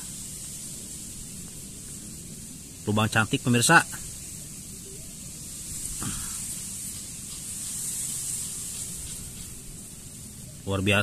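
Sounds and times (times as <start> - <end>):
high-pitched hiss: 0.0 - 11.0.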